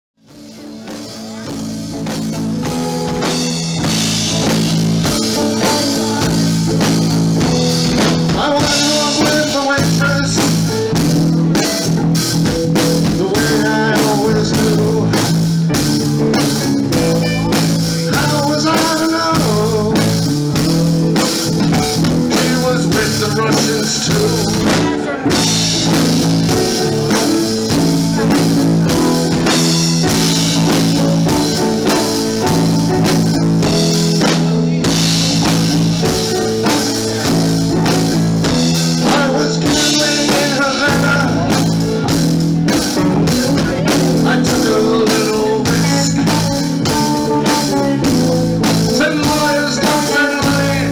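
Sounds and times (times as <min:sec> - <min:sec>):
live rock band playing: 0:00.2 - 0:50.9.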